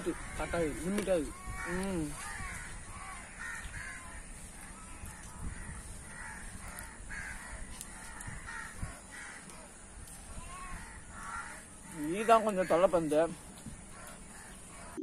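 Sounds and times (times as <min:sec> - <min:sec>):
crows cawing: 0:00.0 - 0:15.0.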